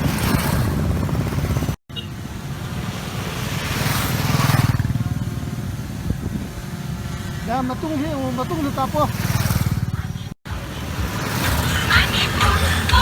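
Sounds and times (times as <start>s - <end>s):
motorcycle engines running: 0.0s - 13.0s
motorcycle passing close: 0.0s - 13.0s.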